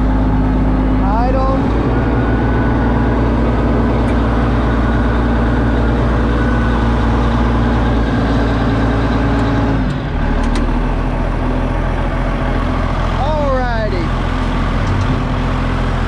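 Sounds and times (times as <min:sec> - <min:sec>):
diesel dozer engine running: 0:00.0 - 0:16.0.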